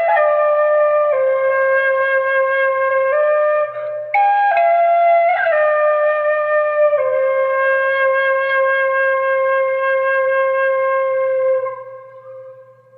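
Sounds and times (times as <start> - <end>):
flute playing: 0.0 - 12.9.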